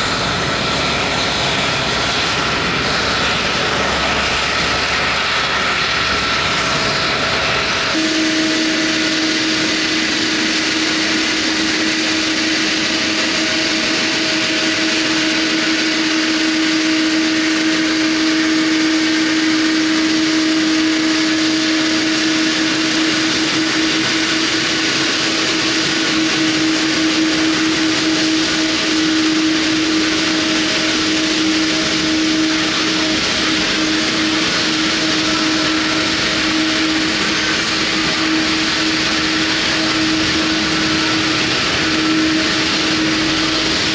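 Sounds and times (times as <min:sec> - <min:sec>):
jet engines idling: 0:00.0 - 0:43.9.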